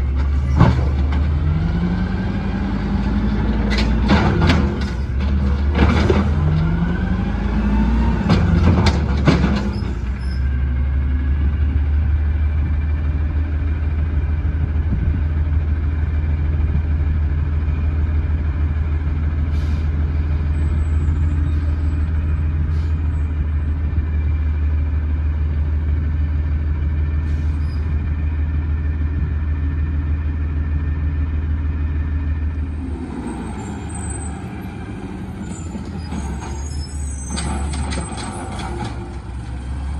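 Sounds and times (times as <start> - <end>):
garbage truck engine droning: 0.0 - 39.9.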